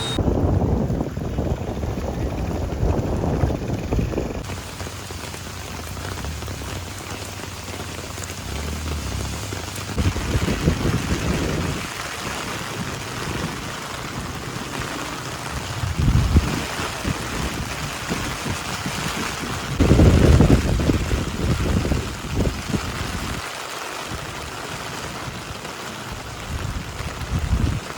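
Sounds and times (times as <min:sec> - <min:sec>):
low rumbling buffets: 0:00.0 - 0:22.6
rain falling steadily: 0:04.2 - 0:27.9.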